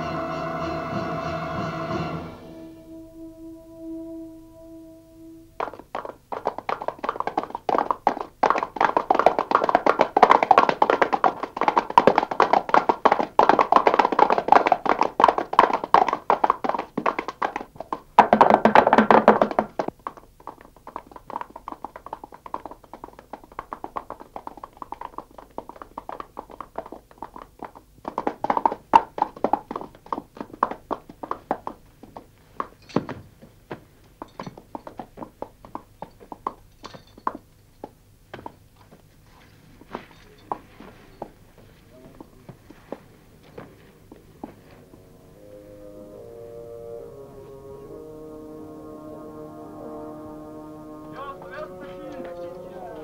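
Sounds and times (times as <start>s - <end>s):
horses' hooves clattering: 5.6s - 49.2s, 49.8s - 53.0s.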